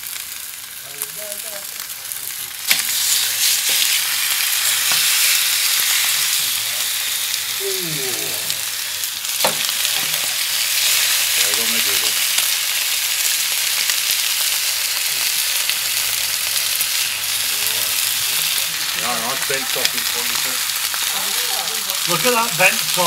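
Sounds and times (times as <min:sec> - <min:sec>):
steaks sizzling on a hot plate: 0:00.0 - 0:23.0.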